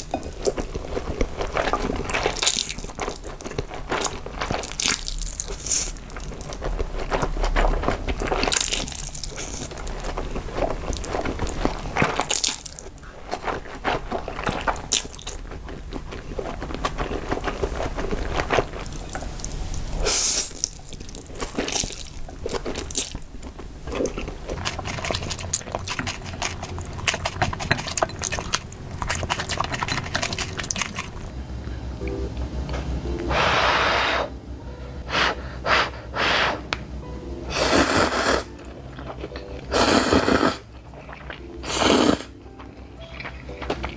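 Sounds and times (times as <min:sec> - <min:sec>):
chewing and slurping noodles: 0:00.0 - 0:31.4, 0:37.5 - 0:43.9.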